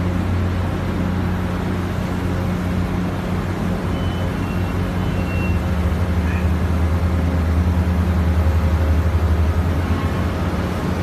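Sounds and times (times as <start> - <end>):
crane machinery drone: 0.0 - 11.0.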